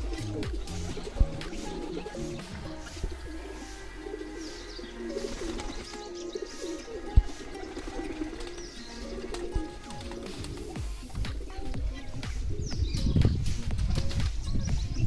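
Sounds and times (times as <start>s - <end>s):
pigeons cooing: 0.0s - 14.6s
small birds chirping faintly: 0.0s - 15.0s.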